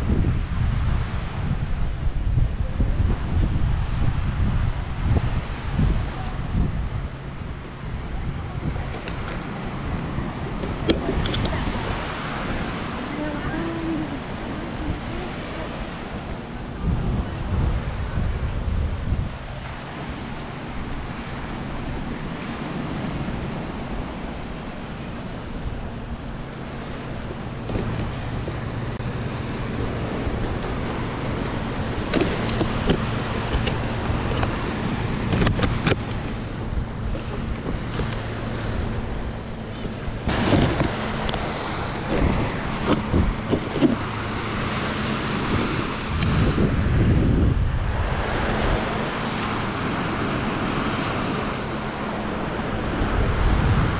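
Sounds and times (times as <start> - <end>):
surf washing onto beach: 0.0 - 53.9
wind buffeting microphone: 0.0 - 53.9.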